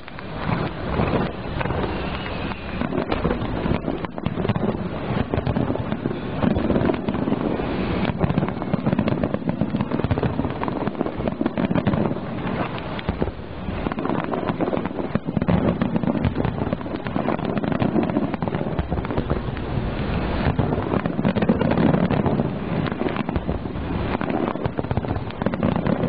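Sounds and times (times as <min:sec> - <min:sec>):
fireworks barrage: 0:00.0 - 0:26.0.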